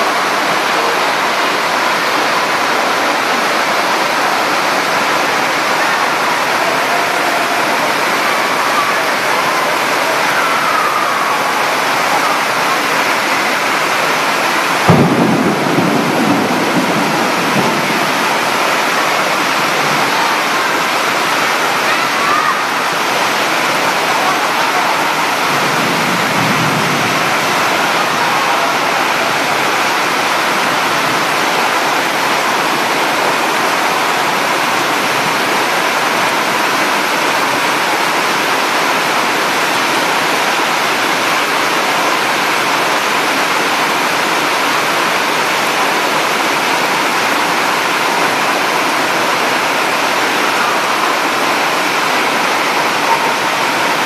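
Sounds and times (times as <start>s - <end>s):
torrential rain and rushing water: 0.0s - 54.0s.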